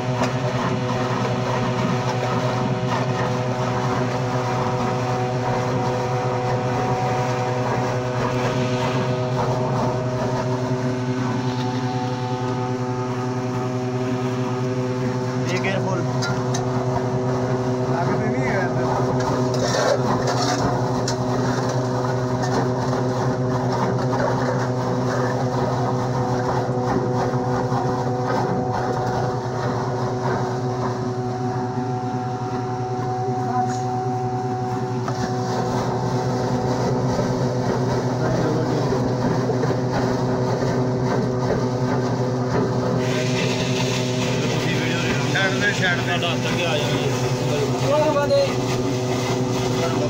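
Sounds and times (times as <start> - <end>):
machine engine droning: 0.0 - 50.0.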